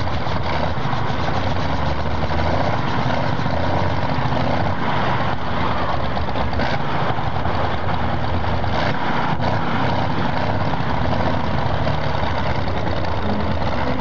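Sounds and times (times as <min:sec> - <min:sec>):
tractor engine rumbling: 0:00.0 - 0:14.0.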